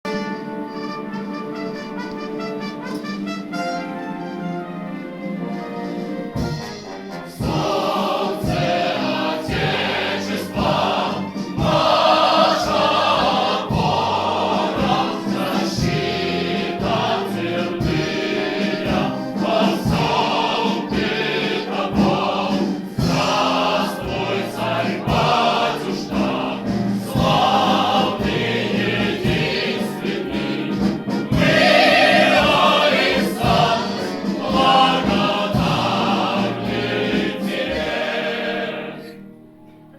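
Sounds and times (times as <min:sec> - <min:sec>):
instrumental accompaniment: 0:00.1 - 0:39.9
choir singing an anthem: 0:00.2 - 0:39.5.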